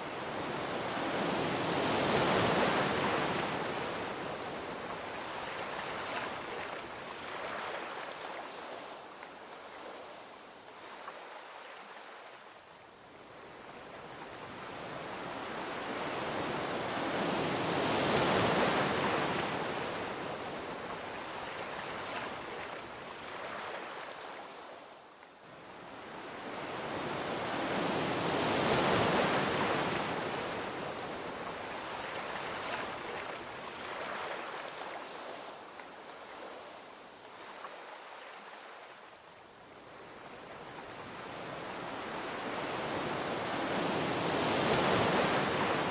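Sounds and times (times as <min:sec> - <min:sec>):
ocean waves on beach: 0:00.0 - 0:45.9.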